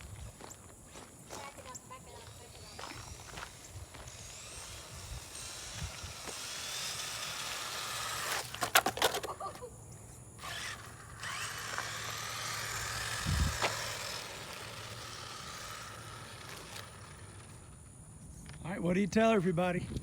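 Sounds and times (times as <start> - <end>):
toy truck electric motor whining: 0.8 - 9.6, 10.3 - 18.2.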